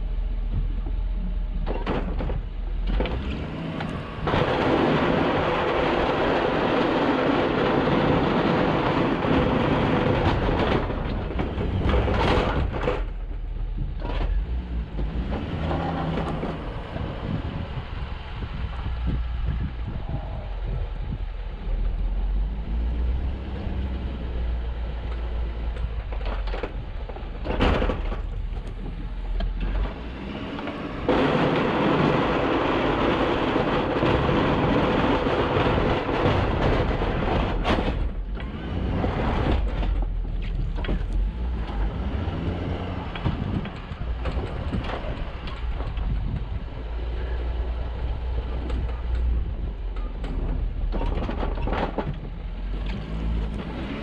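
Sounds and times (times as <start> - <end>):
truck engine rumble: 0.0 - 54.0
rush of noise: 1.6 - 54.0.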